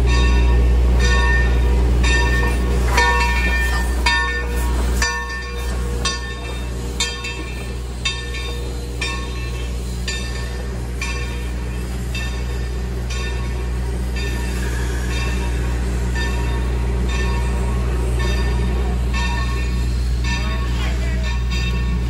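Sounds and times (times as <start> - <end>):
locomotive bell ringing: 0.0 - 22.0
locomotive low rumble: 0.0 - 22.0.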